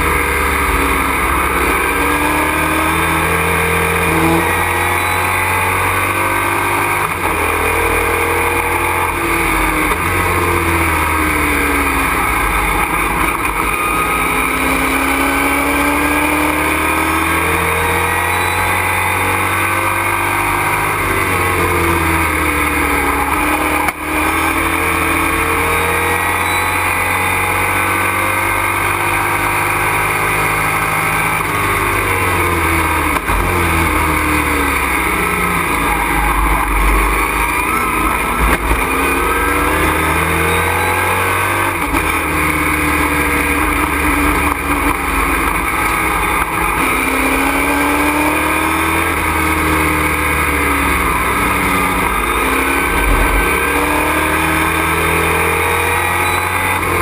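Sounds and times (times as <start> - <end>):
race engine revving: 0.0 - 57.0.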